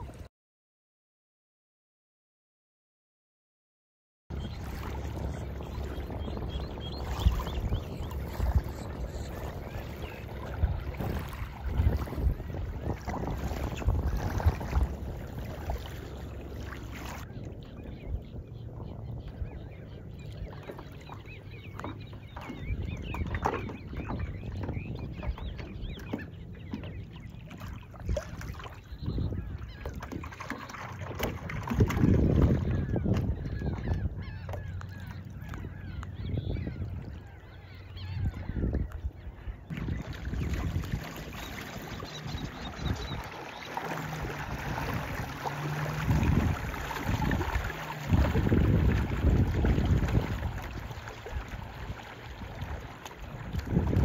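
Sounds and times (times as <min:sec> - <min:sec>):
birds calling: 0:04.3 - 0:54.0
small waves lapping: 0:04.3 - 0:54.0
wind buffeting microphone: 0:04.3 - 0:54.0.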